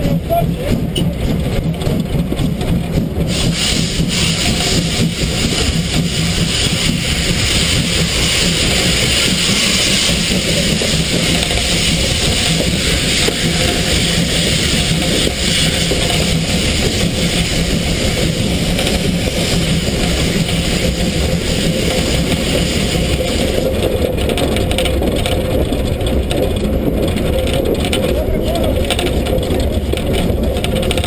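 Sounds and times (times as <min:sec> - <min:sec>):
locomotive engine rumble: 0:00.0 - 0:31.0
steam hissing: 0:00.1 - 0:31.0.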